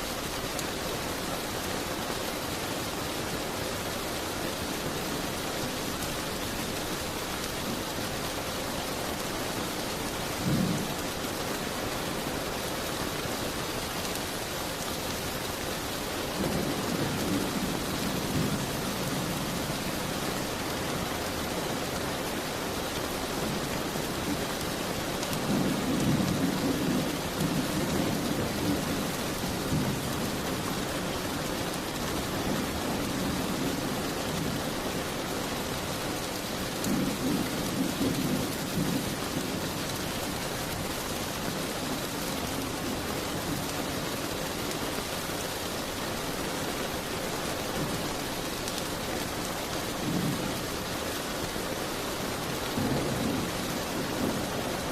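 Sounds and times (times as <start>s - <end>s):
rain pattering on window: 0.0s - 54.9s.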